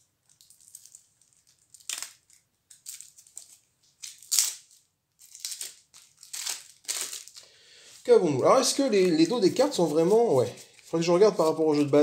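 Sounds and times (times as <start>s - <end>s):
plastic wrap crackling: 0.2s - 12.0s.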